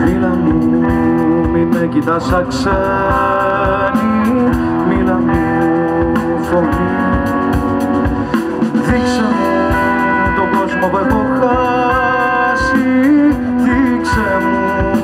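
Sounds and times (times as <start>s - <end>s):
electric guitars: 0.0s - 15.0s
live rock band: 0.0s - 15.0s.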